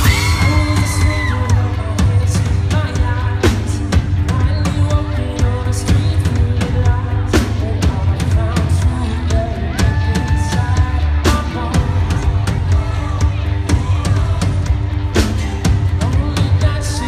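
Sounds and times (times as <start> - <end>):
male singer: 0.0 - 17.0
rock band playing live: 0.0 - 17.0.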